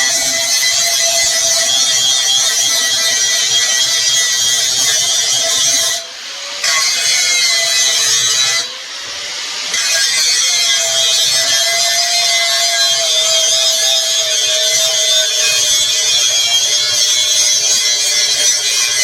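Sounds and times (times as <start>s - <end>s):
welding arc crackle and hiss: 0.0s - 19.0s.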